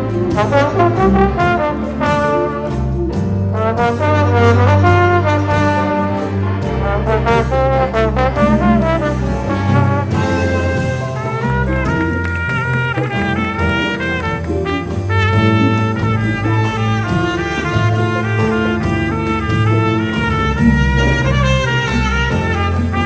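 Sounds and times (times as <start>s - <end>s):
bass notes: 0.0s - 23.0s
big band jazz: 0.0s - 23.0s
brass chords: 0.0s - 23.0s.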